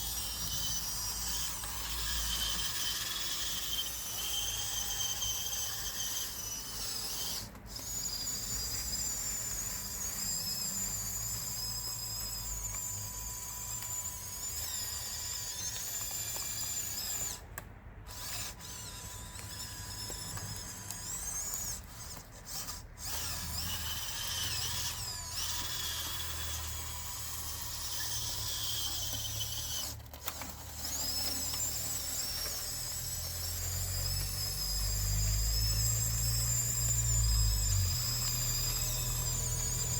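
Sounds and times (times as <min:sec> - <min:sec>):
toy motors whining: 0:00.0 - 0:39.9.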